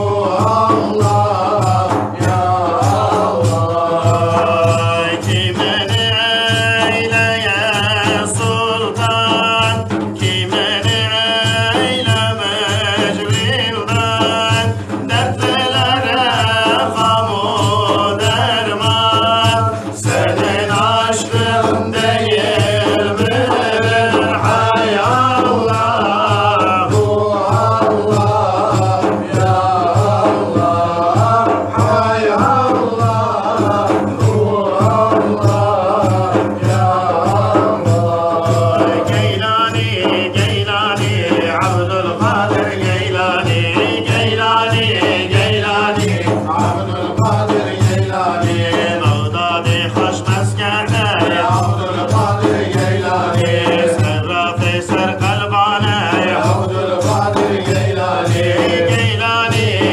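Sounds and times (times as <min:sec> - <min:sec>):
frame drums beating: 0:00.0 - 0:59.9
men singing together: 0:00.0 - 0:59.9.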